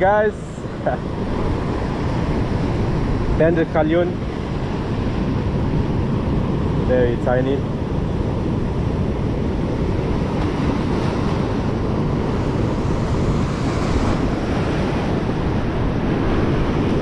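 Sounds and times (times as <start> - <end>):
surf washing over rocks: 0.0 - 17.0
wind buffeting the microphone: 0.0 - 17.0.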